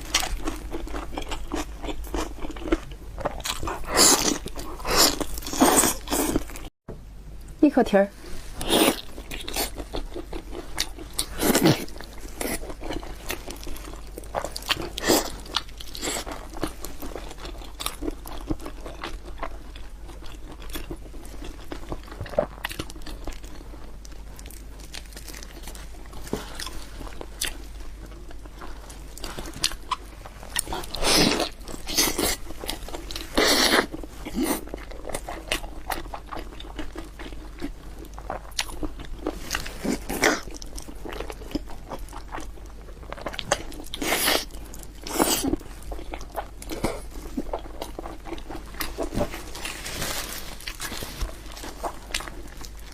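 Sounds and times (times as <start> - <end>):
person chewing crunchy food: 0.0 - 6.7, 8.3 - 52.9.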